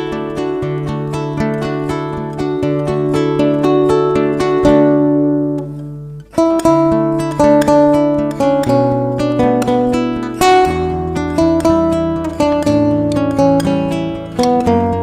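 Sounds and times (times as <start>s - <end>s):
plucked acoustic guitar music: 0.0s - 15.0s.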